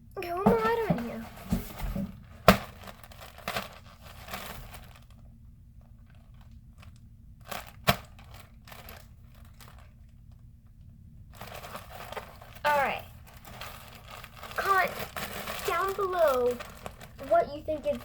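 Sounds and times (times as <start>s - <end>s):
packaging rustling and crinkling: 0.4s - 18.0s.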